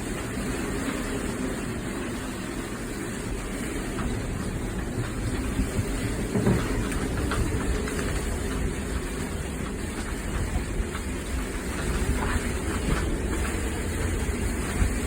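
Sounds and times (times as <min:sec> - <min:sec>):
wind buffeting microphone: 0:02.9 - 0:15.0.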